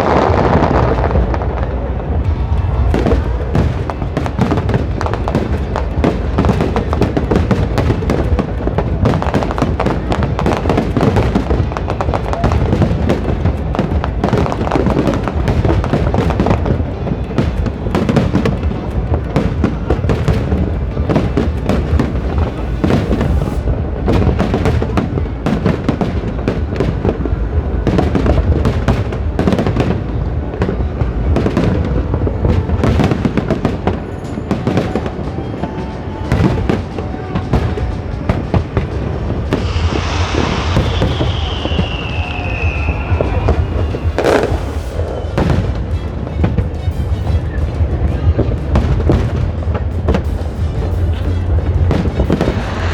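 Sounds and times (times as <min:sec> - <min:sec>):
falling firework whistle: 0:00.0 - 0:30.0, 0:32.5 - 0:47.6, 0:50.1 - 0:52.9
deep firework booms: 0:00.0 - 0:34.0, 0:37.5 - 0:52.9
fireworks bangs and crackles: 0:00.0 - 0:52.9.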